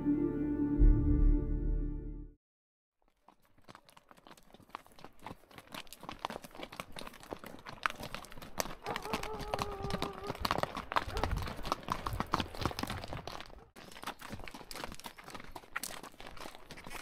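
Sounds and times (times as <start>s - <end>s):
horse hooves clip-clopping: 3.0s - 17.0s.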